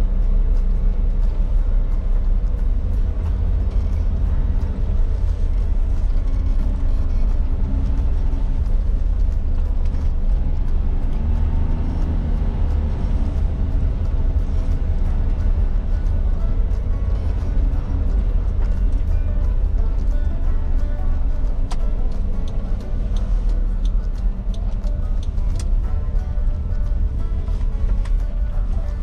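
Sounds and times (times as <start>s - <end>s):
car engine and road noise rumble: 0.0s - 29.0s.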